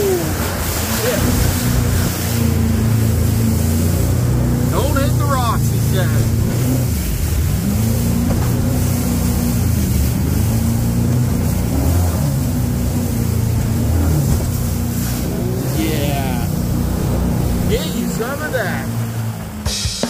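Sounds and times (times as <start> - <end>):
boat engine running hard: 0.0 - 20.0
churning water rushing: 0.0 - 20.0
wind: 0.0 - 20.0.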